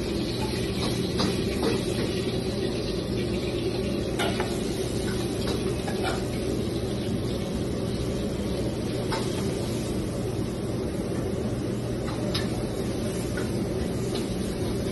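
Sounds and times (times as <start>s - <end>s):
kitchen fans and stoves humming: 0.0s - 14.9s.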